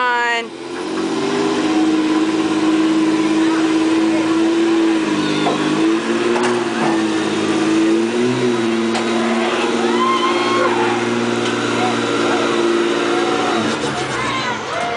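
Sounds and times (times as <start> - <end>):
diesel truck engine at high revs: 0.0 - 14.9.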